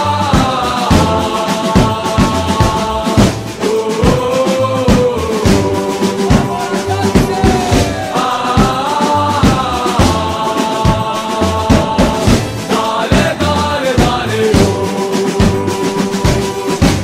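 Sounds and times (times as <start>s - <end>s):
crowd chanting: 0.0s - 17.0s
drum beat: 0.0s - 17.0s.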